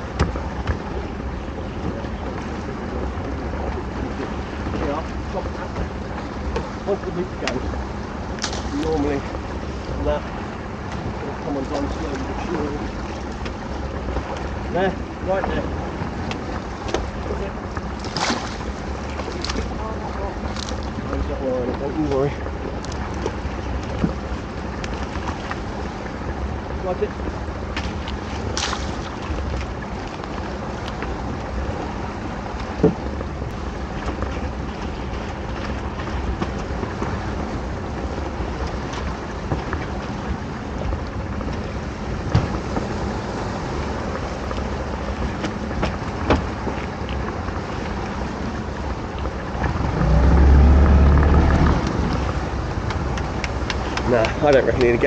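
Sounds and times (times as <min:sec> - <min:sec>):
rope and gear knocking on boat: 0:00.0 - 0:07.8, 0:10.9 - 0:26.2, 0:27.0 - 0:55.0
boat engine low rumble: 0:00.0 - 0:55.0
water noise: 0:00.0 - 0:55.0
wind: 0:00.0 - 0:55.0.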